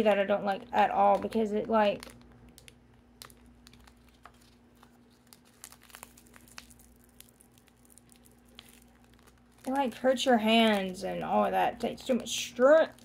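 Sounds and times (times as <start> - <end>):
slime clicks and crinkles: 0.5 - 13.0.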